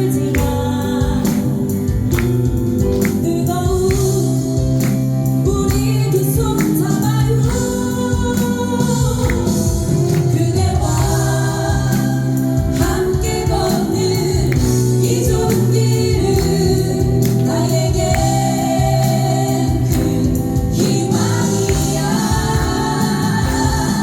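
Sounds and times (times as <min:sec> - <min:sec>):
band playing with steady beat: 0:00.0 - 0:24.0
vocal group singing: 0:00.0 - 0:24.0.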